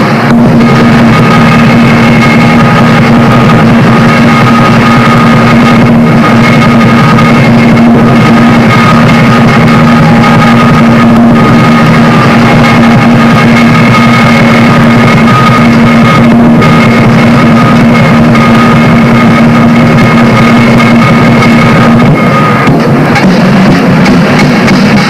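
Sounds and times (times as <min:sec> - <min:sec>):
distorted drums gongs and cymbals: 0:00.0 - 0:25.0.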